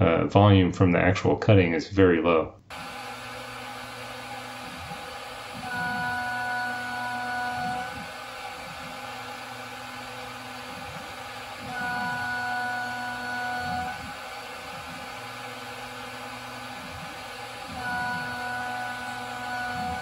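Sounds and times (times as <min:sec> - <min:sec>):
milling spindle hum: 0:02.7 - 0:20.0.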